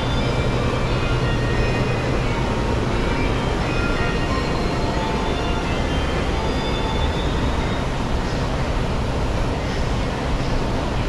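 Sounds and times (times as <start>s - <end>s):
airport terminal roar: 0.0s - 11.0s.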